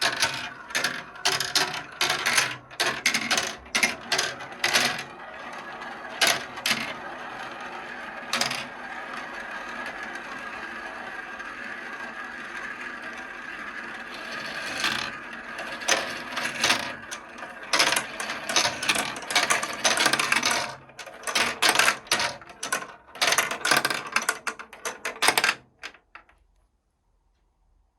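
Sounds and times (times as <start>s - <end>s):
marbles clacking on a track: 0.0s - 26.2s
marbles rolling down a track: 0.0s - 26.2s.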